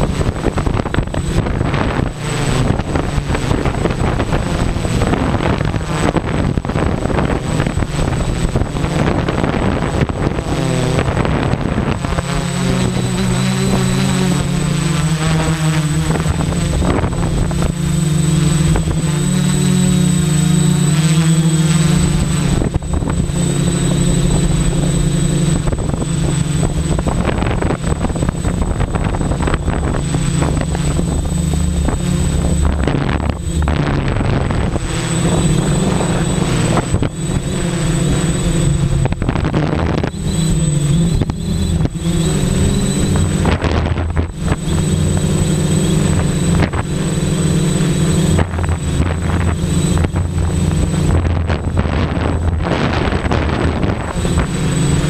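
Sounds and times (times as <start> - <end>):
drone propellers humming: 0.0 - 55.0
thin high whine: 0.0 - 55.0
wind buffeting microphone: 0.0 - 55.0.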